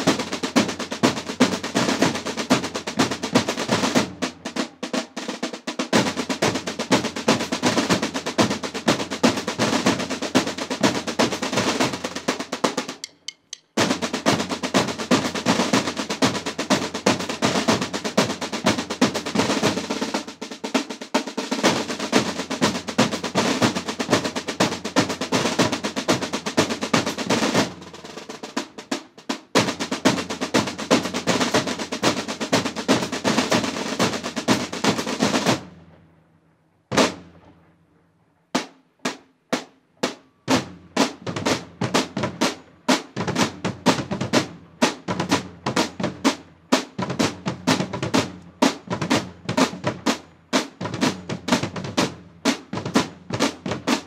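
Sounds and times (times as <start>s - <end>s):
marching snare and bass drums: 0.0s - 36.1s, 36.9s - 37.6s, 38.5s - 54.0s.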